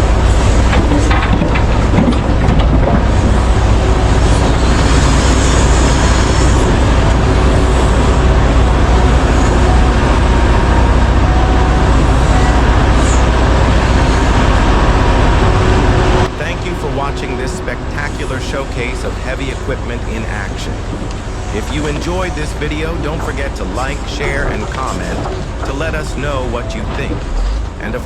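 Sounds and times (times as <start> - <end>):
excavator diesel engine drone: 0.0 - 28.0
faint engine whine: 0.0 - 28.0.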